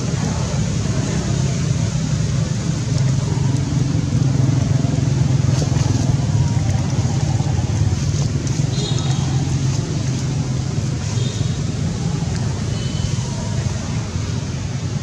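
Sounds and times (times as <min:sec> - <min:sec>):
motor engine rumbling: 0:00.0 - 0:15.0.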